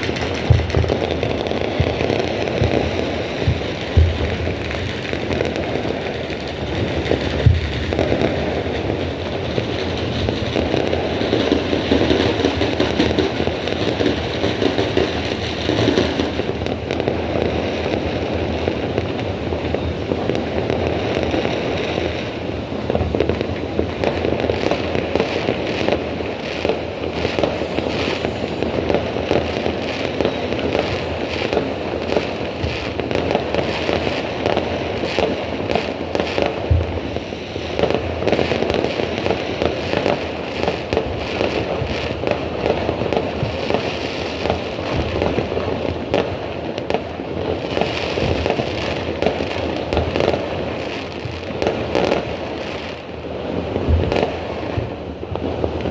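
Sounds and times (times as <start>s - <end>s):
fireworks popping and crackling: 0.0s - 55.9s.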